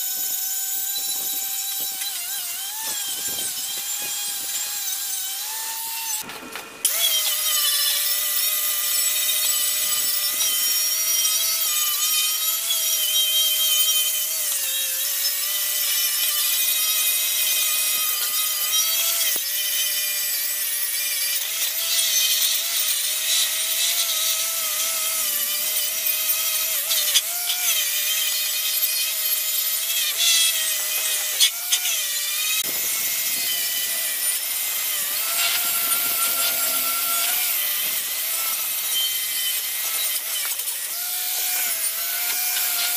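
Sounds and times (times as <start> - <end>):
angle grinder motor whine: 0.0 - 42.9.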